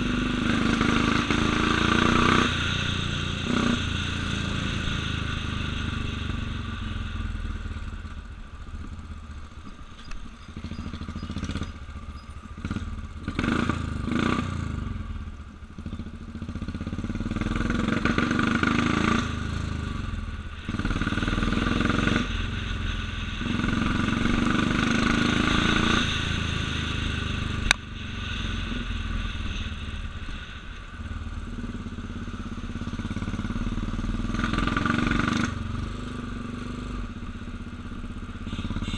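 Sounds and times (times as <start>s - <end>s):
motorcycle engine shifting gears: 0.0s - 15.0s, 15.7s - 38.9s.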